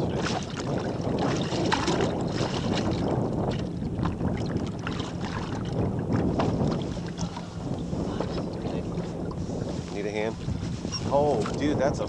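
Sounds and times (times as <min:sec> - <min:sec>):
water lapping against boat hull: 0:00.0 - 0:12.0
wind buffeting microphone: 0:00.0 - 0:12.0.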